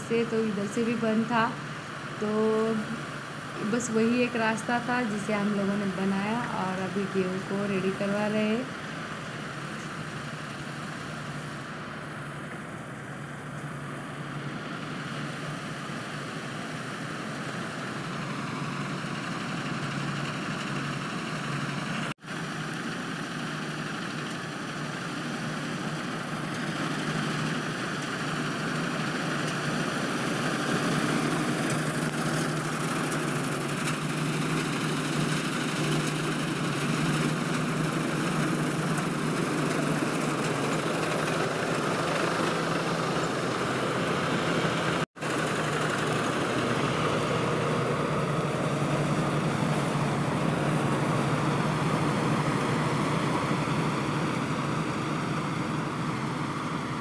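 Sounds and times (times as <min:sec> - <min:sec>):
combine harvester engine drone: 0:00.0 - 0:57.0
whirring threshing machinery: 0:00.0 - 0:57.0.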